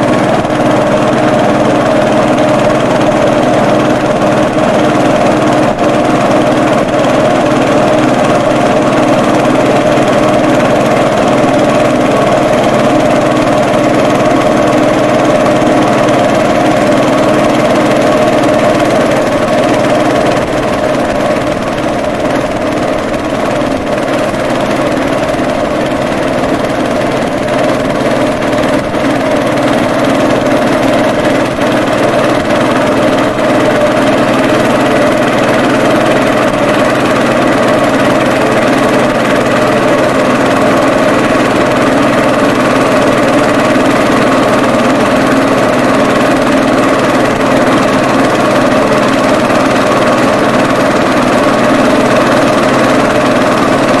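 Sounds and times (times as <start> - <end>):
boat engine running steadily: 0.0 - 54.0.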